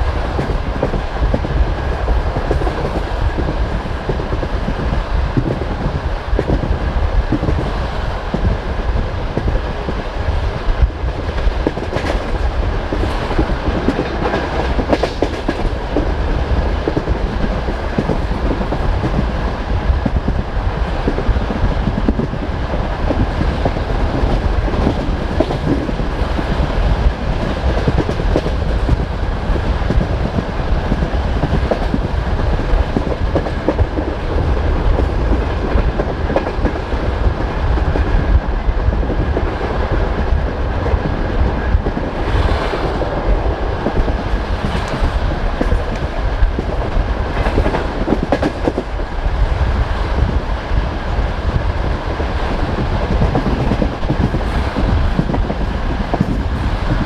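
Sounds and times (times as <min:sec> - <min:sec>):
train carriage rumbling: 0:00.0 - 0:57.0
train wheels clickety-clack: 0:00.0 - 0:57.0.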